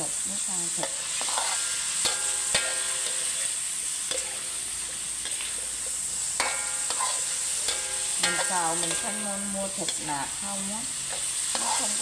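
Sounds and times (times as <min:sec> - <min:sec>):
meat sizzling in a wok: 0:00.0 - 0:12.0
spatula scraping a pan: 0:00.8 - 0:12.0.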